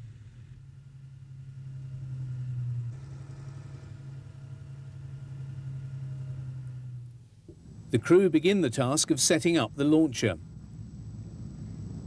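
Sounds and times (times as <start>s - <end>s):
tractor engine humming: 0.0s - 10.7s.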